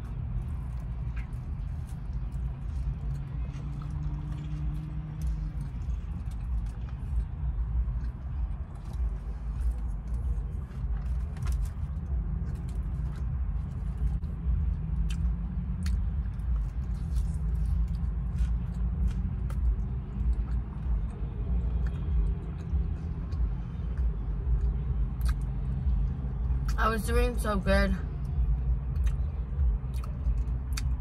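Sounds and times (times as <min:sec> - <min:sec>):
chewing with soft clicks: 0:00.0 - 0:26.0, 0:28.2 - 0:31.0.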